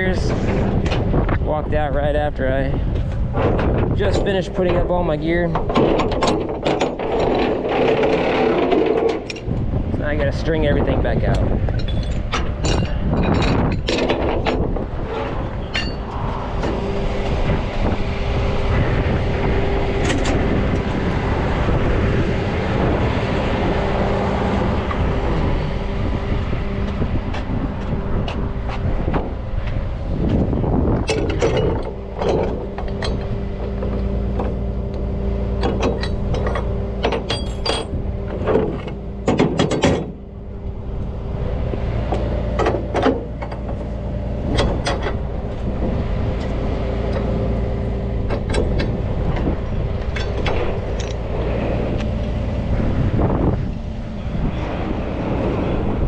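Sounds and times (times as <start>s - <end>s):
truck engine humming: 0.0s - 56.0s
winch line clanking and rattling: 0.0s - 56.0s.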